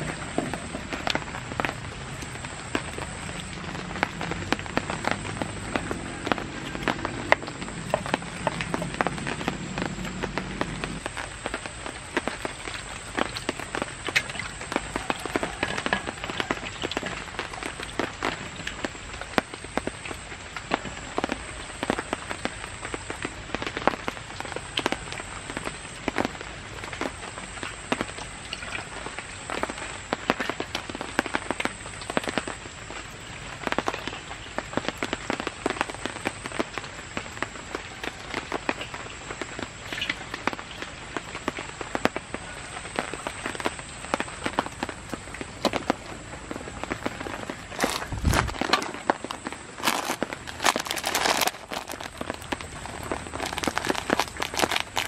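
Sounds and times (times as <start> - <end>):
heavy rain on a shelter: 0.0 - 55.0.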